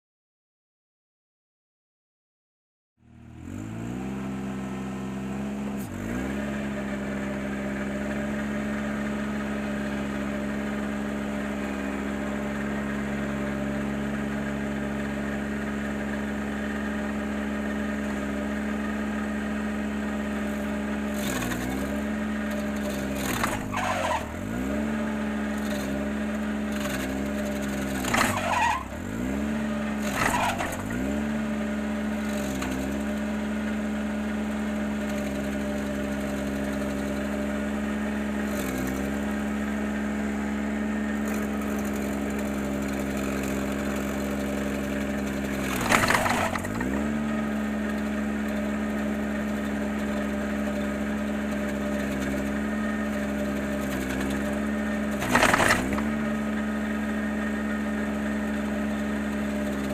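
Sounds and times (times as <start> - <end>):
tractor engine running: 3.2 - 59.9
stump grinder crackling: 3.4 - 59.9.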